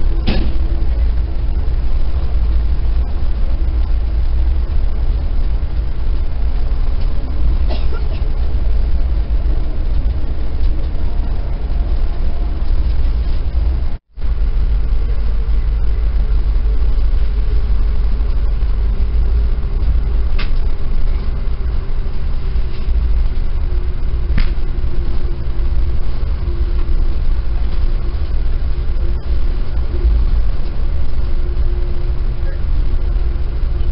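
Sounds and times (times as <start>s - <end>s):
faint hum: 0.0s - 33.9s
train coach rumbling: 0.0s - 33.9s.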